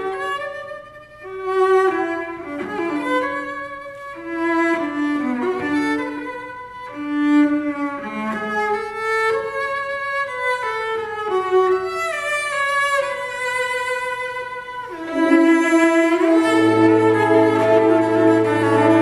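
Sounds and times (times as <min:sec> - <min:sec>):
solo cello melody: 0:00.0 - 0:19.0
string orchestra: 0:00.0 - 0:19.0.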